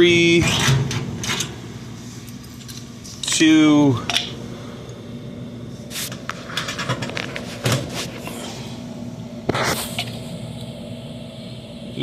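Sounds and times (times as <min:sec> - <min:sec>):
blower motor humming: 0:00.0 - 0:12.0.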